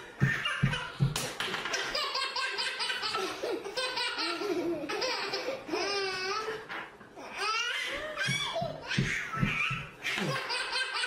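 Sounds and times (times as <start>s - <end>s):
baby laughing: 0.2s - 1.0s, 1.7s - 11.0s.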